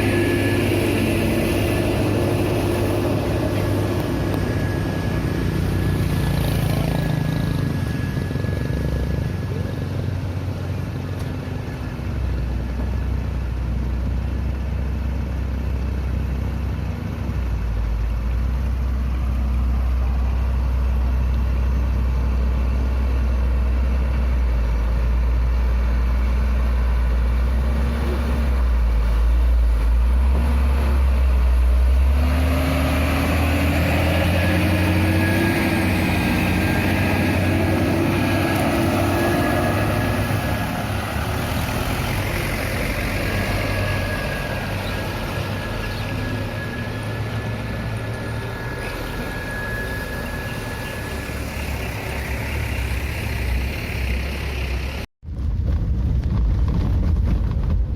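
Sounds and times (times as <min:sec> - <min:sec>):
truck engine rumbling: 0:00.0 - 0:57.9.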